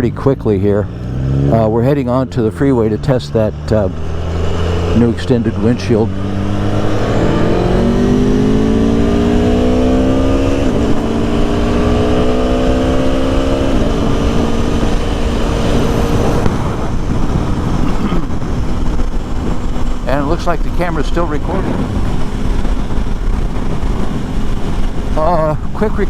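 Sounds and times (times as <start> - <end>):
motorcycle engine accelerating: 0.0 - 26.0
wind noise on microphone: 3.9 - 26.0.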